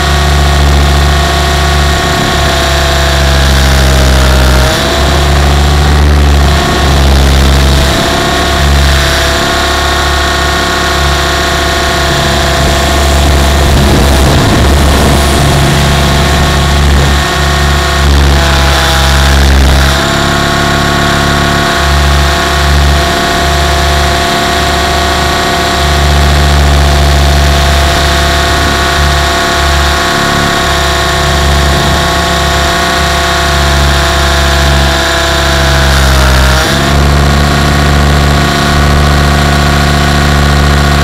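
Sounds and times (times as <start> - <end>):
electric motor and gears whining: 0.0 - 41.0
helicopter rotor pulsing: 0.0 - 41.0.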